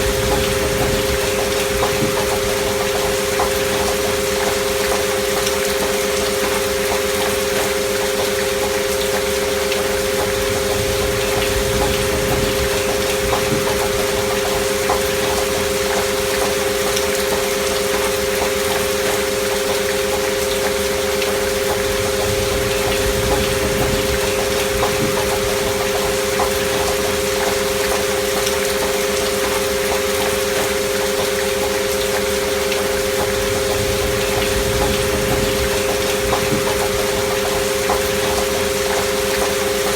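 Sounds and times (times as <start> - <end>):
rain: 0.0 - 39.9.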